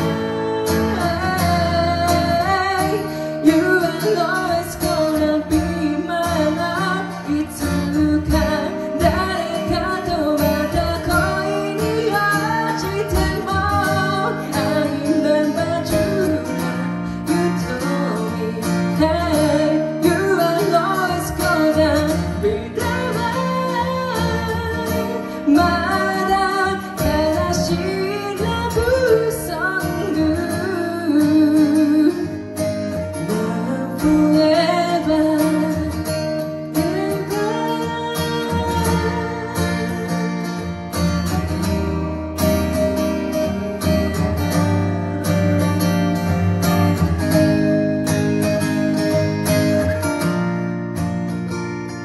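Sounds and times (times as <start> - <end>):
acoustic guitar: 0.0 - 52.0.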